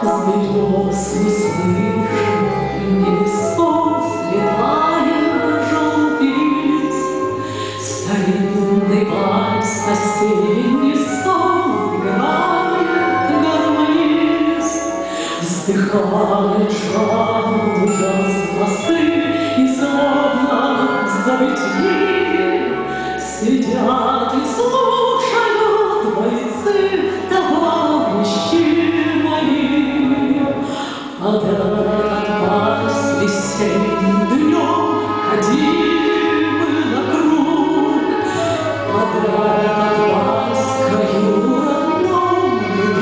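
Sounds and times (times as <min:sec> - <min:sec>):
recorded orchestral accompaniment: 0:00.0 - 0:43.0
woman singing into microphone: 0:00.0 - 0:43.0.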